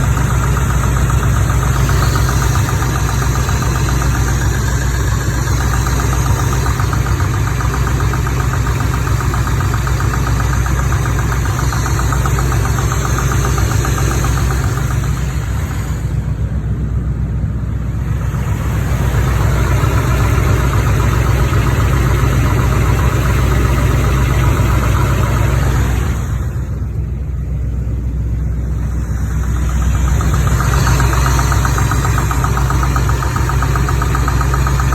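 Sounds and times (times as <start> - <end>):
light tappety engine knock: 0.0 - 16.8, 17.9 - 34.9
car engine idling: 0.0 - 34.9.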